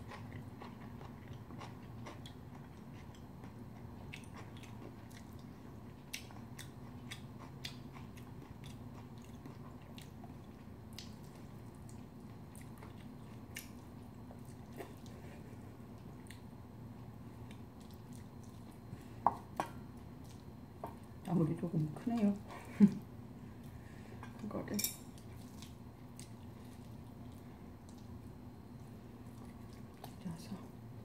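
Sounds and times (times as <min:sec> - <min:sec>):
person chewing food: 0:00.0 - 0:21.3, 0:25.1 - 0:30.2
steady low hum: 0:00.0 - 0:31.0.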